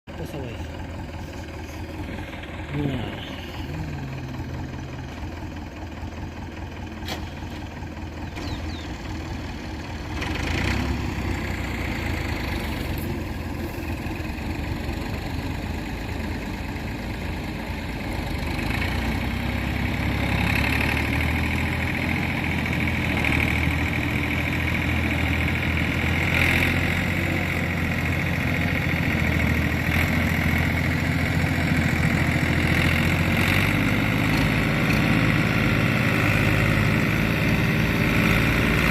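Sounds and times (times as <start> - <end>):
diesel tractor engine running: 0.1 - 38.9.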